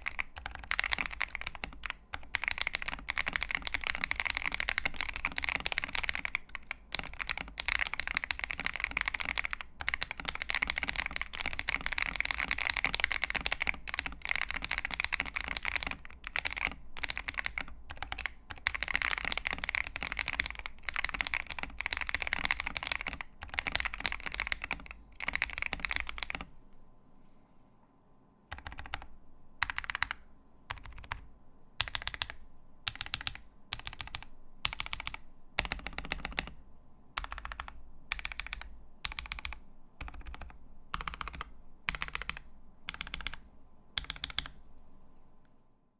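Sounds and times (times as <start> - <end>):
typing on mechanical keyboard: 0.0 - 26.5, 28.5 - 36.6, 37.2 - 43.4, 44.0 - 44.6.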